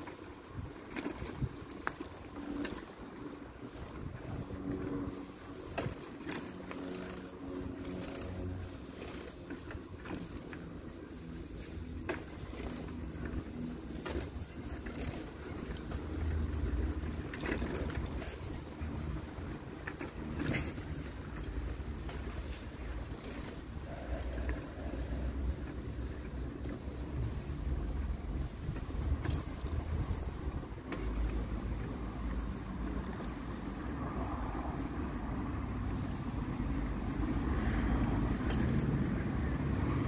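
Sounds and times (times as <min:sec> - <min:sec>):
low outdoor rumble: 0:00.0 - 0:40.0.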